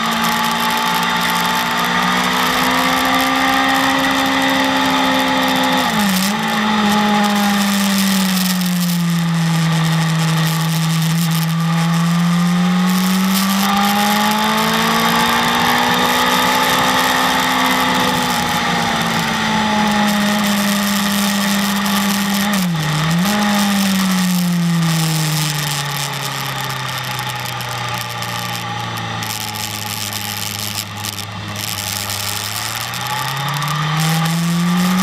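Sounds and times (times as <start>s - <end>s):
motorcycle engine running hard: 0.0s - 35.0s
steady rushing hiss: 0.0s - 35.0s.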